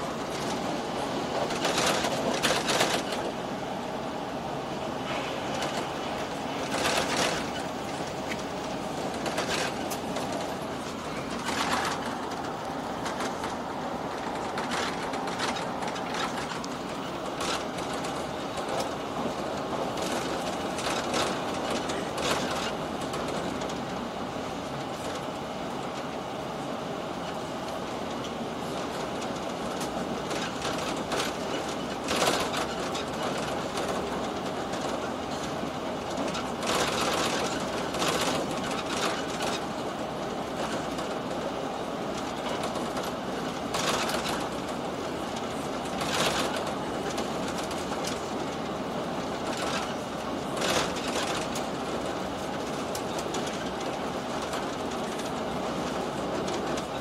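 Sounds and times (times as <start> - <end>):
rail joint clacks: 0.0 - 57.0
train wheels rumbling on rail: 0.0 - 57.0.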